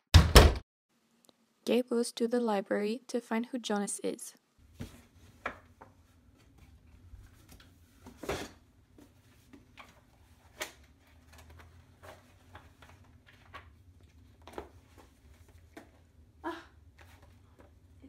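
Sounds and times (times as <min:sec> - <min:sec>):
room hum: 0:00.9 - 0:18.0.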